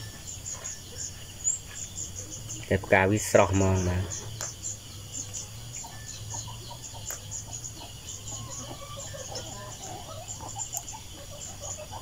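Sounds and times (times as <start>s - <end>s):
chickens clucking: 0.0s - 12.0s
insects chirping: 0.0s - 12.0s.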